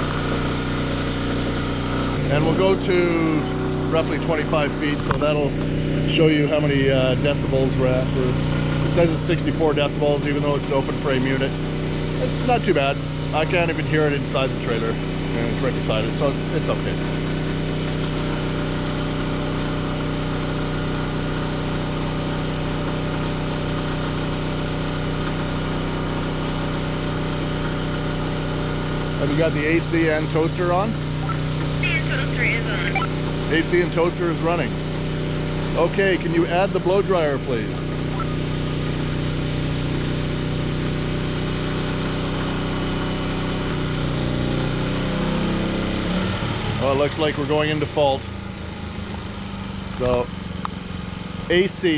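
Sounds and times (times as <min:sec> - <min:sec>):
generator engine humming: 0:00.0 - 0:51.9.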